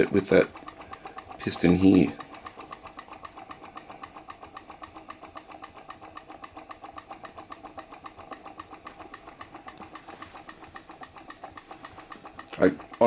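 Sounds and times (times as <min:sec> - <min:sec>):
engine rhythmic clicking: 0:00.0 - 0:13.0.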